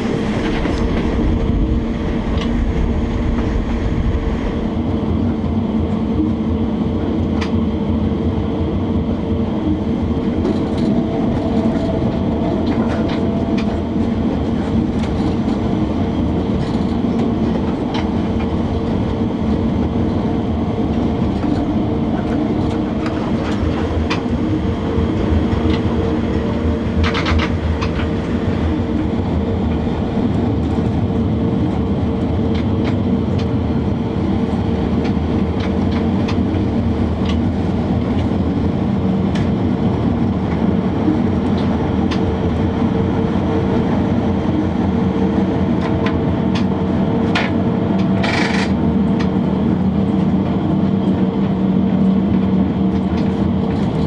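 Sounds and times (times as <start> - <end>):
electric locomotive drone: 0.0 - 54.0.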